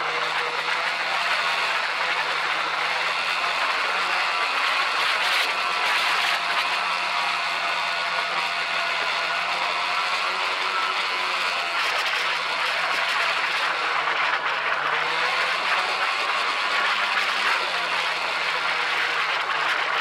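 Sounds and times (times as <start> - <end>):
rushing snowmobile track: 0.0 - 20.0
snowmobile engine drone: 0.0 - 20.0.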